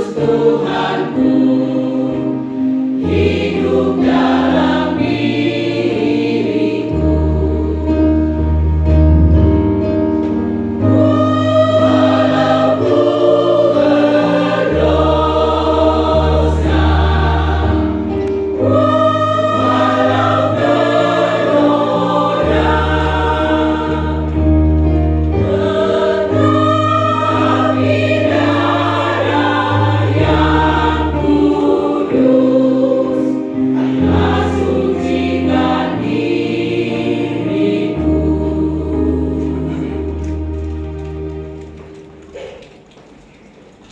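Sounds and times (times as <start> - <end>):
choir singing a hymn: 0.0 - 41.8.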